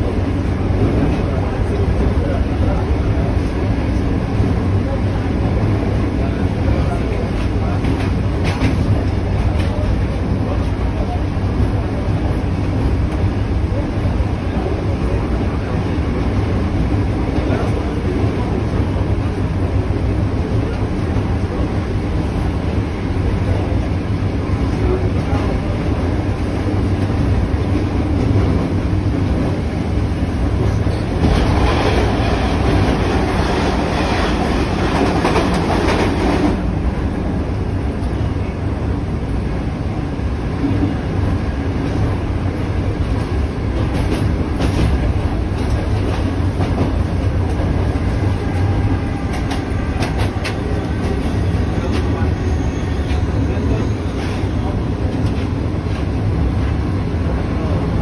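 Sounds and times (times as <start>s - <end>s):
train rumbling at speed: 0.0s - 58.0s.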